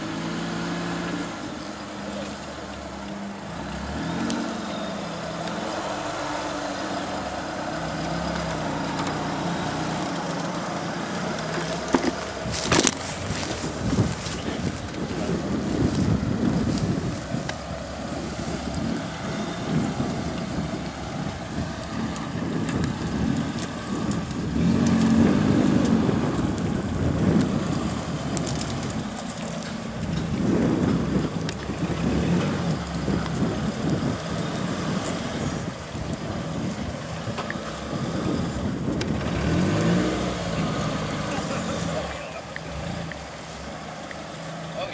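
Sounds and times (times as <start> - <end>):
off-road vehicle engine under load: 0.0 - 44.9
wind buffeting microphone: 2.6 - 44.9.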